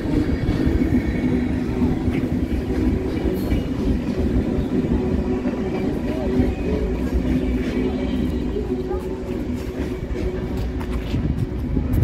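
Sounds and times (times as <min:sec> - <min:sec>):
train rumbling on bridge: 0:00.0 - 0:12.0.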